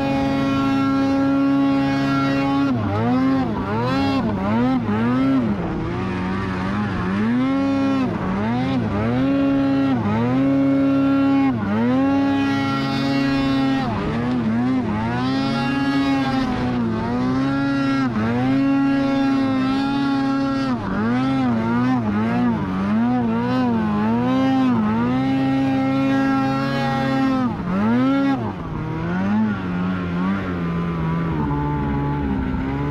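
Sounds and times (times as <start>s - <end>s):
snowmobile engine revving: 0.0s - 32.9s.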